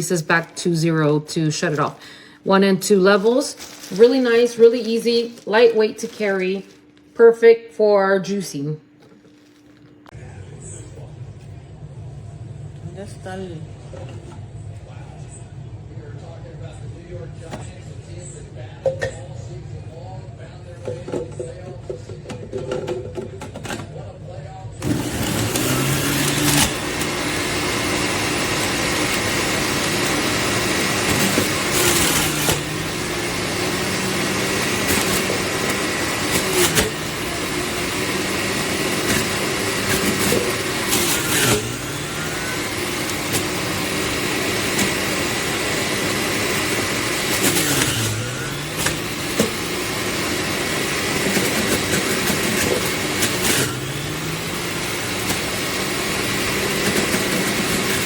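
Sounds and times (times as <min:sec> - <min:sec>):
juicer motor whining: 0:00.0 - 0:07.5, 0:11.0 - 0:15.4, 0:20.0 - 0:58.0.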